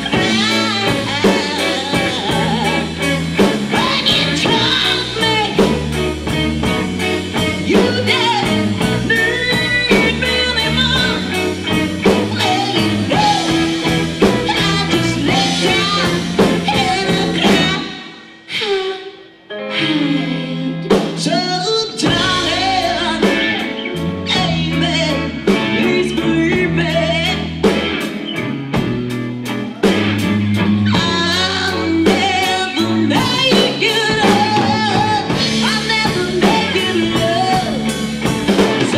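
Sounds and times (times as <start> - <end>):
drum kit: 0.0 - 18.3, 20.8 - 38.9
bass guitar: 0.0 - 18.7, 19.5 - 38.9
person singing: 0.0 - 28.5, 29.7 - 38.9
electric guitar: 0.0 - 38.9.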